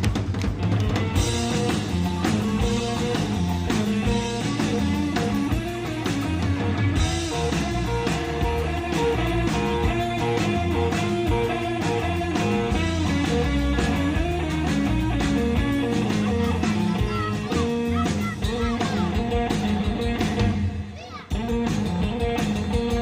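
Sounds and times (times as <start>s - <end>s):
bass guitar: 0.0s - 23.0s
steady drum beat: 0.0s - 23.0s
twangy electric guitar: 0.0s - 23.0s.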